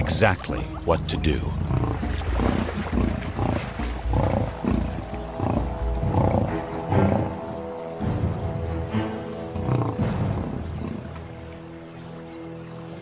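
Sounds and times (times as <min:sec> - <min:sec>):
lions growling and snarling: 0:00.0 - 0:08.6, 0:09.2 - 0:11.4
background music: 0:00.0 - 0:13.0.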